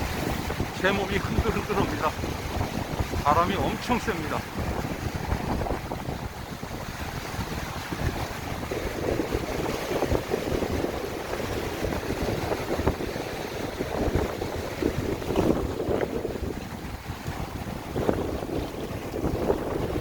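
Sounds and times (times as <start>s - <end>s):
gusty wind buffeting microphone: 0.0s - 20.0s
waves surging on shore: 0.0s - 20.0s.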